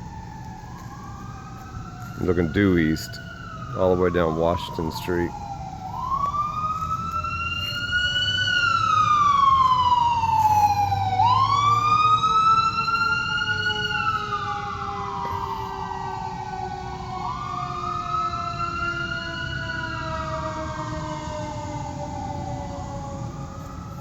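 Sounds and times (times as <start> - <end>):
emergency siren wailing: 0.0 - 24.0
traffic rumble: 0.0 - 24.0.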